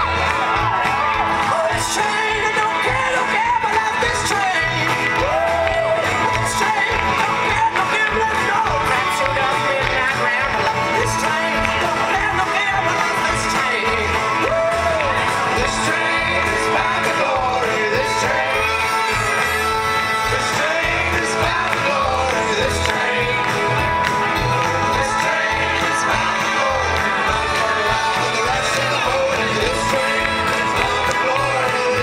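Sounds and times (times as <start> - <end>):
acoustic guitars strummed: 0.0 - 32.0
voices singing together: 0.0 - 32.0.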